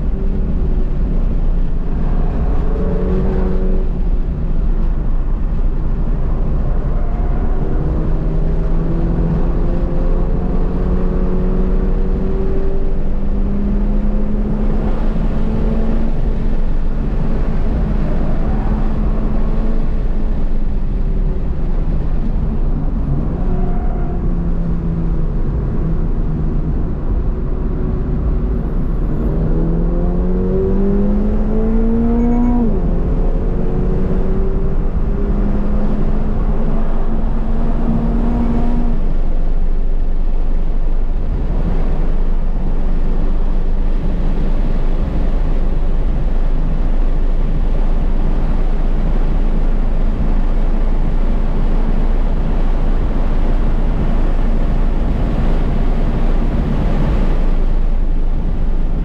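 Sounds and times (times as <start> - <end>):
car engine revving: 0.0 - 59.0
road and tyre rumble: 0.0 - 59.0.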